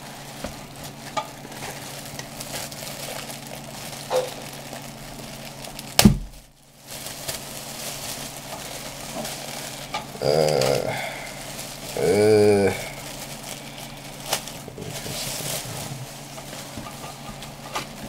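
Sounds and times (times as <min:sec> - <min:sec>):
packaging rustling: 0:00.0 - 0:18.0
steady low hum: 0:00.0 - 0:18.0.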